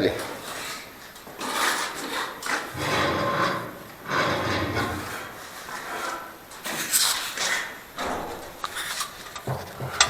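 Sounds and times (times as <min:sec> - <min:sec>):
masonry scraping and rubbing: 0:00.0 - 0:07.8, 0:08.6 - 0:10.0.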